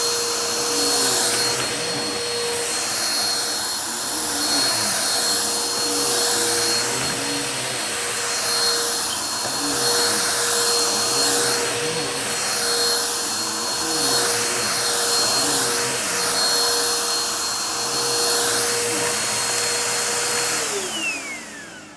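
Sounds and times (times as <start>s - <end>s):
vacuum cleaner motor whine: 0.0s - 21.9s.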